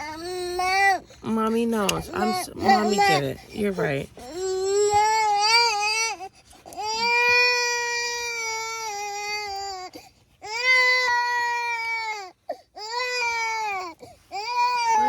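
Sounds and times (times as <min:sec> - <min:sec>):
baby crying: 0:02.0 - 0:03.6, 0:04.2 - 0:15.0.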